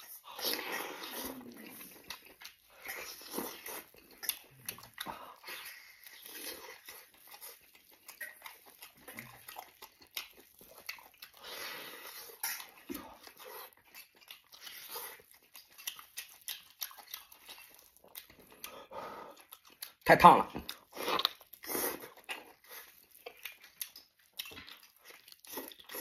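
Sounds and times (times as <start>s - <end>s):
person chewing meat: 0.0s - 26.0s.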